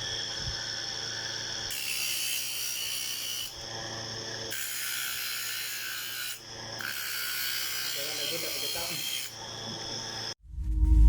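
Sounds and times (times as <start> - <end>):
small power tool grinding: 0.0 - 10.4.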